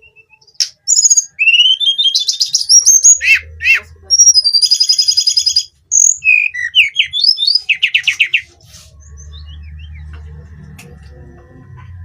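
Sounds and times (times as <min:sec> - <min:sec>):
bird singing trills and whistles: 0:00.0 - 0:10.1.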